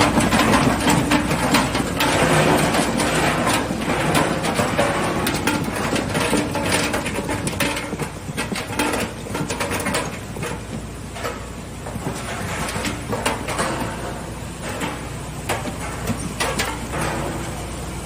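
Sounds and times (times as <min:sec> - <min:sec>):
machinery clicking and clattering: 0:00.0 - 0:18.0
machinery low hum: 0:00.0 - 0:18.0.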